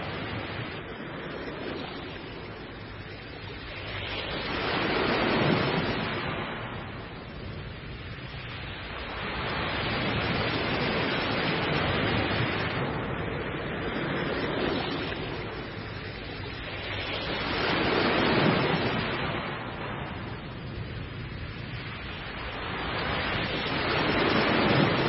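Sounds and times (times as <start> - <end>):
sea waves breaking: 0.0 - 25.0.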